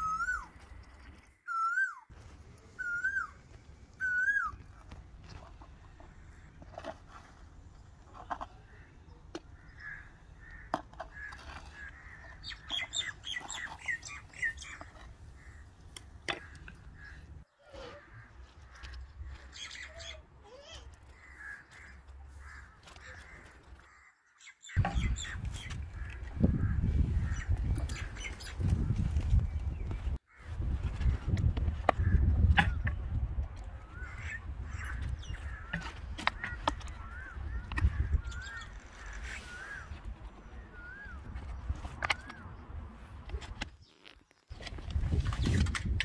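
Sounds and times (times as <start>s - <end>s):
birds chirping: 0.0s - 31.2s, 32.0s - 43.0s.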